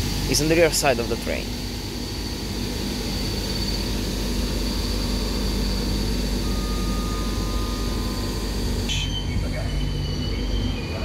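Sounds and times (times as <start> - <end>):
electric locomotive whine: 0.0 - 11.0
train rolling noise: 0.0 - 11.0.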